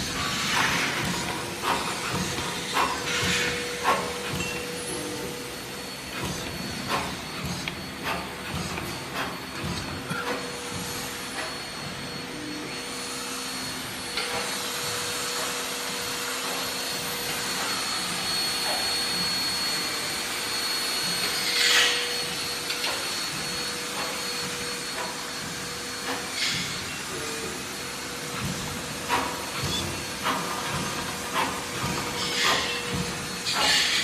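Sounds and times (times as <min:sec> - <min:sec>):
drilling machine whirring: 0:00.0 - 0:34.0.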